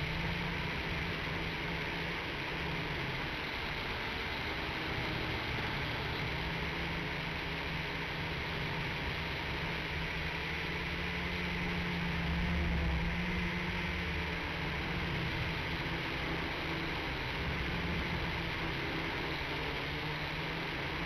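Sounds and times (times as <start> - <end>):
quadcopter propellers whirring: 0.0 - 21.0.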